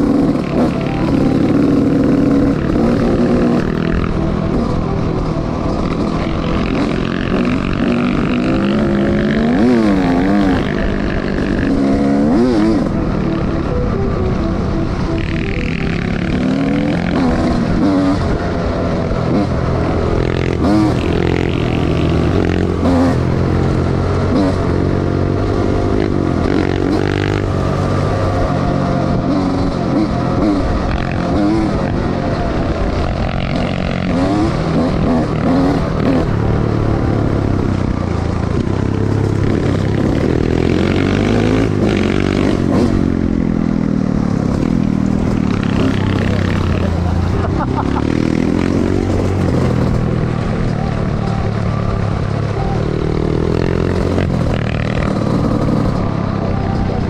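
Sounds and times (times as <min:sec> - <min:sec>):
dirt bike engine revving: 0:00.0 - 0:14.1, 0:14.9 - 0:56.4.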